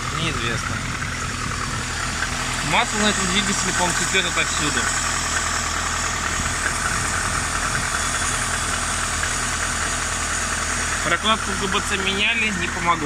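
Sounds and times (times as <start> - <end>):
car engine idling with knock: 0.0 - 13.0.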